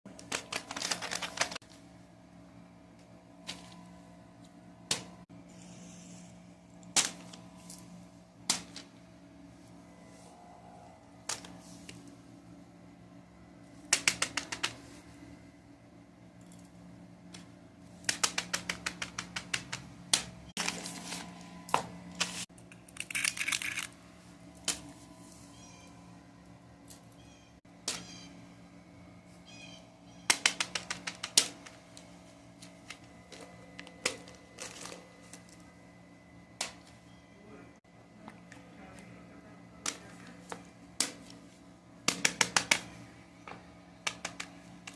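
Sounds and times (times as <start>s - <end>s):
steady low hum: 0.1s - 44.9s.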